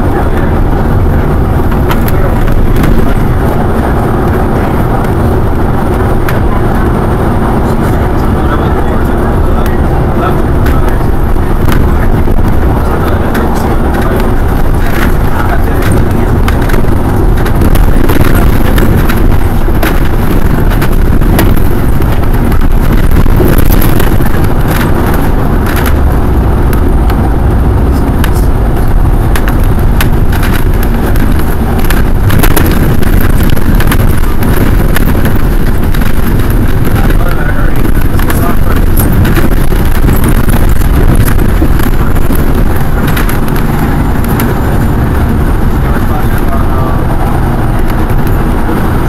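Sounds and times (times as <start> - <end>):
city bus rumbling: 0.0 - 49.0
rattles and clicks: 0.0 - 49.0.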